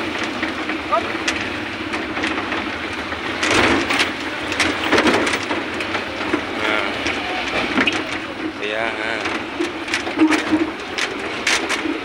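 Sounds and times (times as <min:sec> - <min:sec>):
vehicle body rattling and knocking: 0:00.0 - 0:12.0
vehicle engine running: 0:00.0 - 0:12.0.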